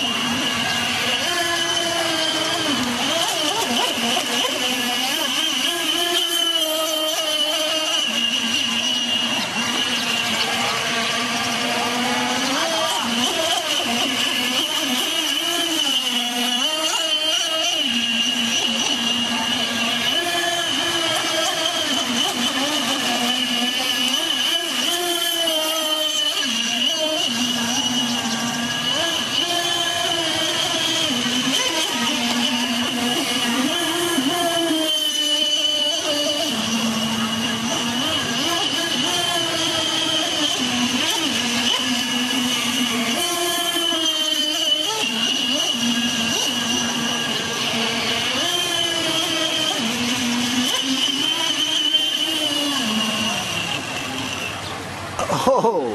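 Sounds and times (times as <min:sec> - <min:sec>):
toy boat motor whining: 0:00.0 - 0:55.9
fountain water splashing: 0:00.2 - 0:55.9.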